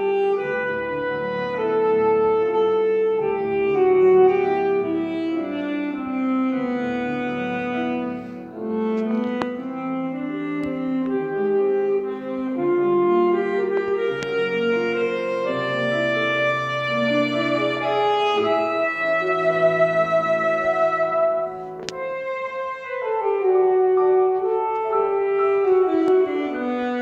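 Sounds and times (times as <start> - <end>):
alto saxophone melody: 0.0 - 27.0
grand piano accompaniment: 0.0 - 27.0.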